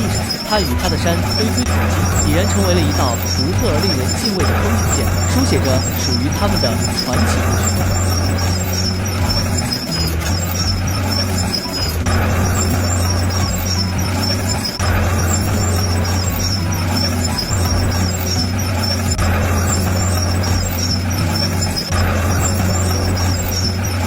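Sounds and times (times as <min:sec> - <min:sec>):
bulldozer diesel engine drone: 0:00.0 - 0:24.0.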